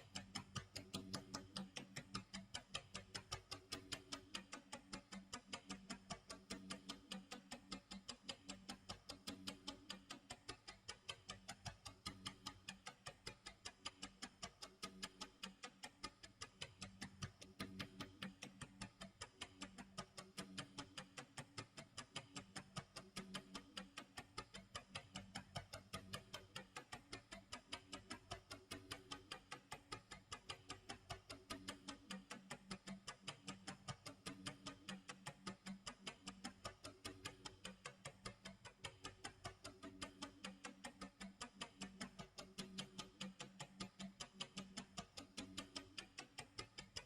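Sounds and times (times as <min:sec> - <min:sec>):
clock ticking: 0:00.0 - 0:47.0.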